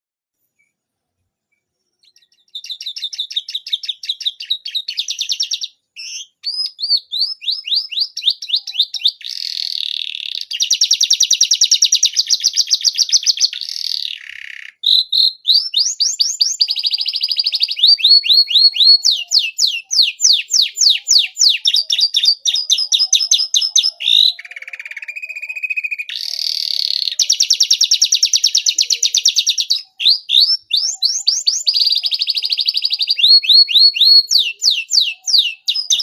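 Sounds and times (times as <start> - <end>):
canary singing trills: 1.6 - 36.0.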